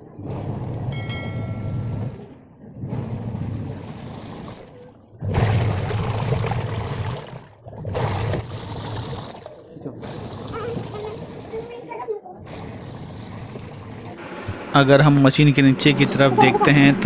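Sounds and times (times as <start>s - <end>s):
washing machine churning water: 0.0s - 15.3s.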